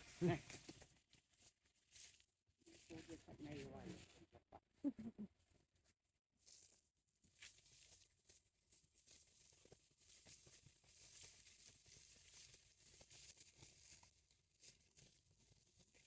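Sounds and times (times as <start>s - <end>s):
dry leaves crackling: 0.0s - 4.1s, 6.4s - 16.0s.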